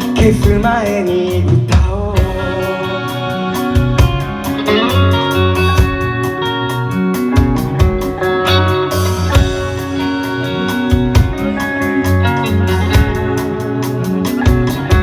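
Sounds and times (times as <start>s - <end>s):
instrumental band music: 0.0s - 15.0s.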